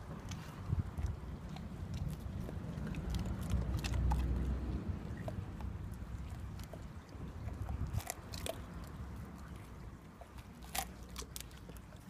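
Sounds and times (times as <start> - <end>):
dog chewing prawn shell crunching: 0.0 - 12.0.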